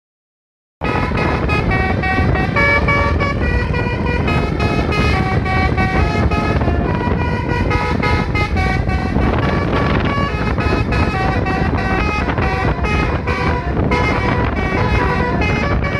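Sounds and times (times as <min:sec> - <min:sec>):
low rumble: 0:00.8 - 0:15.9
multi-trumpet horn melody: 0:00.8 - 0:15.9.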